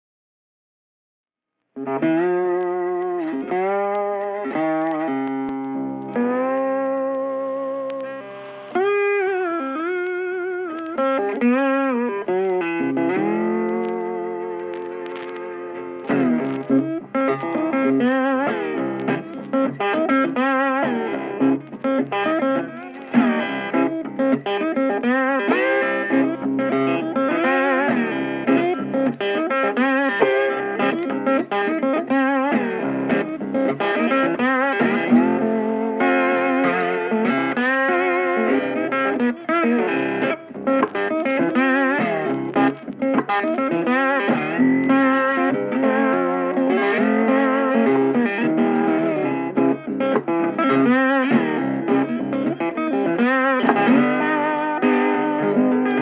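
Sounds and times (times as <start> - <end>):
background music with guitar lead: 1.7 - 56.0.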